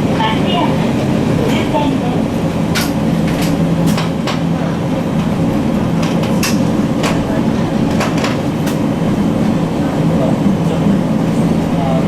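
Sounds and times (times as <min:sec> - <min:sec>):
train car rumbling: 0:00.0 - 0:12.0.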